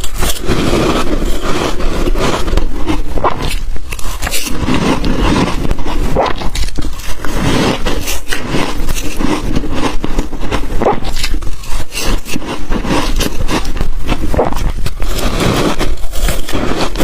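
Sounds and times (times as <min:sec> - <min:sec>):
ice being chewed with crunches: 0:00.0 - 0:17.0.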